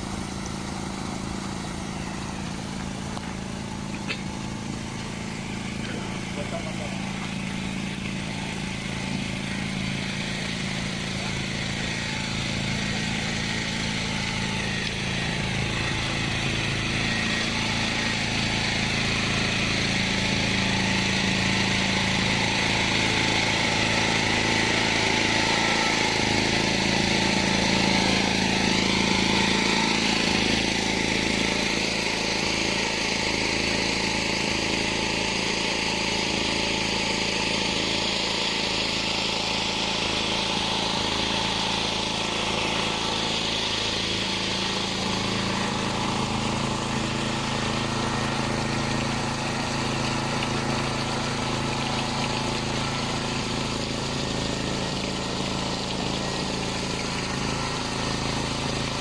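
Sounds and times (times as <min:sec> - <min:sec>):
motor humming: 0:00.0 - 0:59.0.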